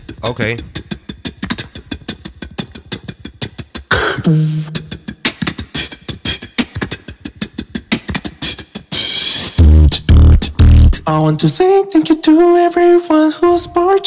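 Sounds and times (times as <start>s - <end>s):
person beatboxing: 0.0s - 14.0s.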